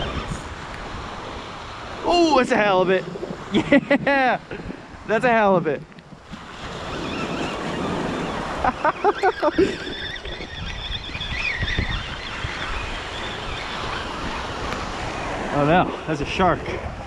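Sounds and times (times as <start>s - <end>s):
small waves washing onto beach: 0.0s - 11.4s, 12.1s - 17.0s
wind buffeting microphone: 0.0s - 17.0s.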